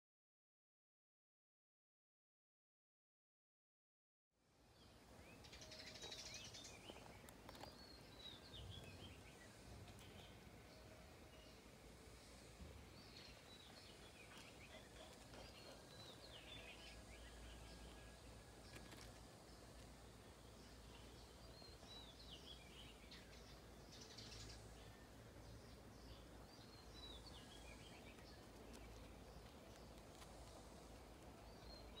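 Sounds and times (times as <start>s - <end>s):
faint outdoor ambience: 4.4s - 32.0s
small birds chirping: 4.7s - 32.0s.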